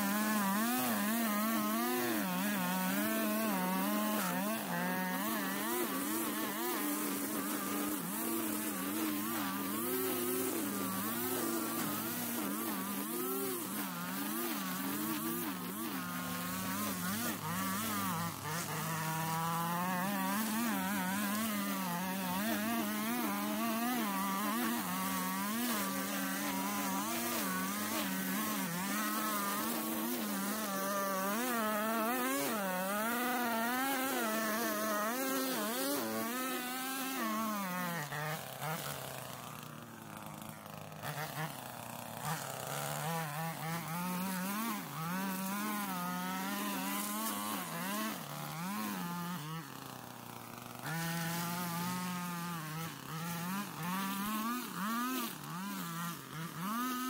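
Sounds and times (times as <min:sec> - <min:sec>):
string trimmer engine running: 0:00.0 - 0:57.0.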